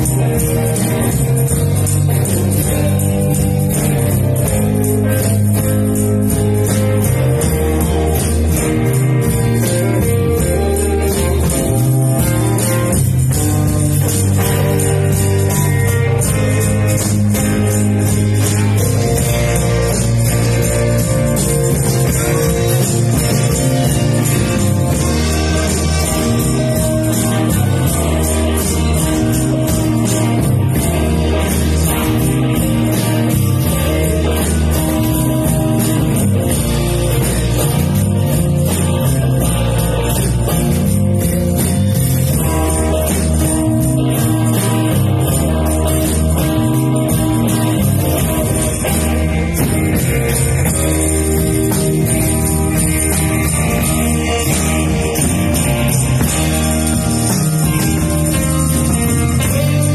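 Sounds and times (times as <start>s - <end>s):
bass line: 0.0s - 59.9s
jingling tambourine: 0.0s - 59.9s.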